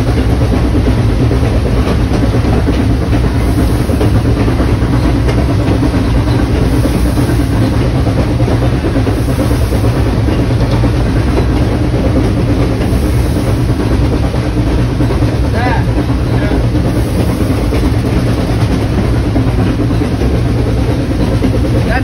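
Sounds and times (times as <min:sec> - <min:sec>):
steam locomotive wheels rumbling: 0:00.0 - 0:22.0.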